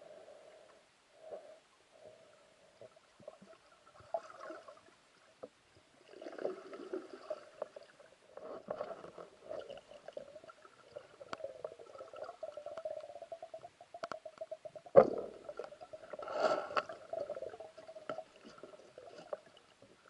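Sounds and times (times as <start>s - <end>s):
underwater gurgling: 2.0s - 20.0s.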